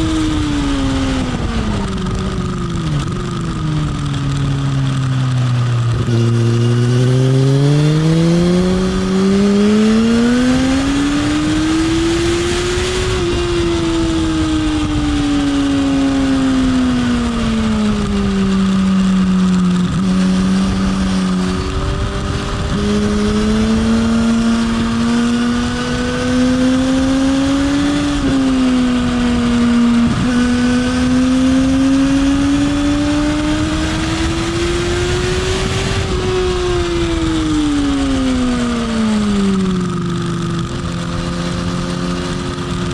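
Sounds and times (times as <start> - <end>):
wind rush: 0.0 - 5.1, 5.7 - 42.9
motorcycle engine: 0.0 - 42.9.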